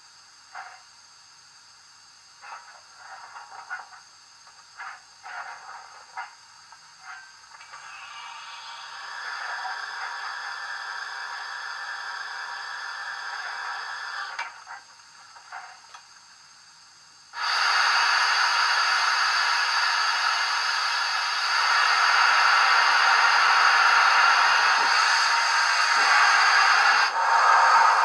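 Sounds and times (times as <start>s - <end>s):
model locomotive steam hiss: 2.2s - 16.6s, 17.3s - 28.0s.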